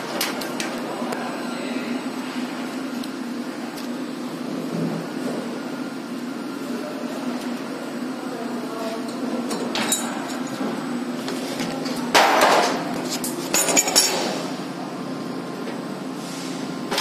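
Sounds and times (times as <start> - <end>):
steady low machine hum: 0.0 - 17.0.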